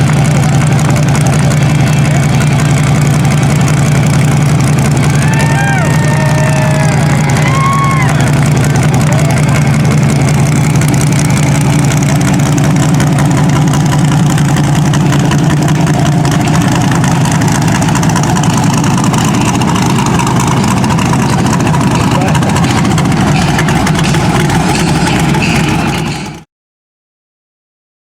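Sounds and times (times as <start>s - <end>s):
truck engine running loudly: 0.0s - 26.5s.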